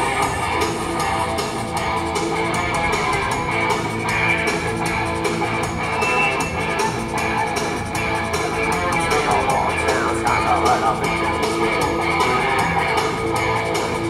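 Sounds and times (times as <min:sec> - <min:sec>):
bass guitar: 0:00.0 - 0:14.0
drum machine beat: 0:00.0 - 0:14.0
electric guitars: 0:00.0 - 0:14.0.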